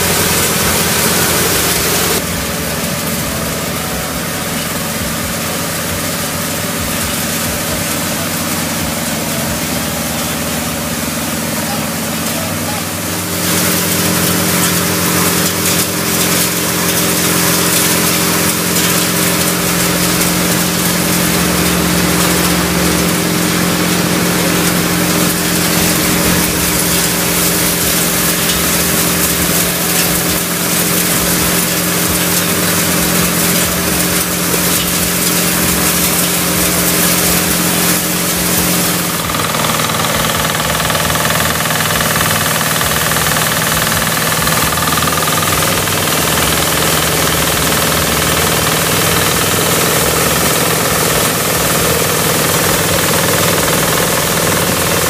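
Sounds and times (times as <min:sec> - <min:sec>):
high steady whining tones: 0:00.0 - 0:55.0
threshing drum whirring: 0:00.0 - 0:55.0
tractor engine hum: 0:00.0 - 0:55.0.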